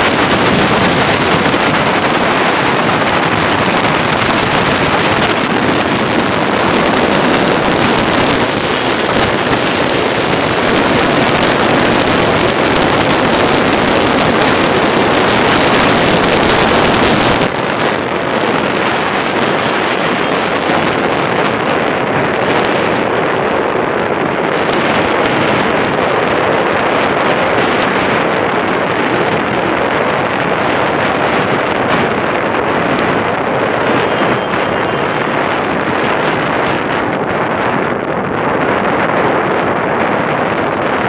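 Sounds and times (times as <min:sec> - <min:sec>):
rushing wind: 0:00.0 - 0:41.0.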